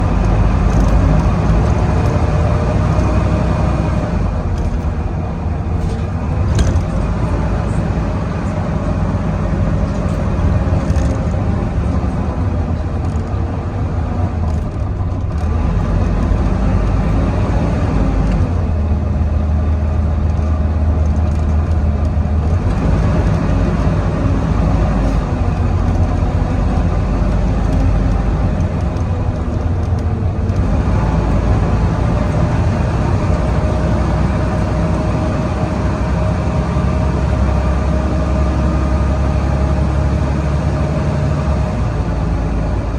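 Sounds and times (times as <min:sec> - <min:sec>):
bus diesel engine under load: 0:00.0 - 0:42.9.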